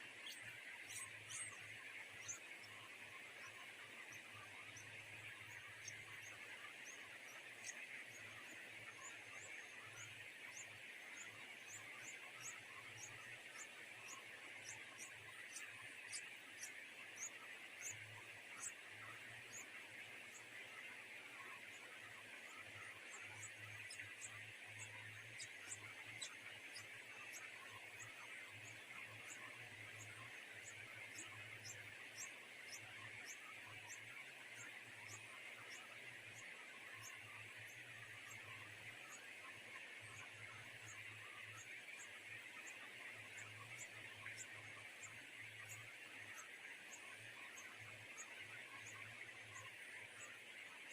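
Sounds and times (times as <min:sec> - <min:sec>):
nestling birds chirping: 0:00.1 - 0:50.9.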